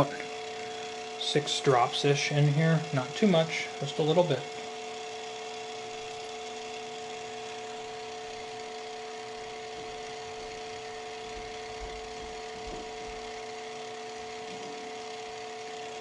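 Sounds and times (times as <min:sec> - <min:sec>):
motor and gearbox running: 0:00.0 - 0:16.0.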